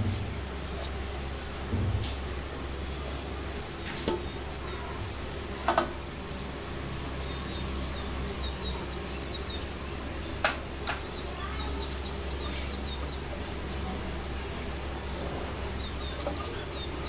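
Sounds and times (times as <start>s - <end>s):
steady low hum: 0.0s - 17.0s
small birds chirping: 0.3s - 17.0s.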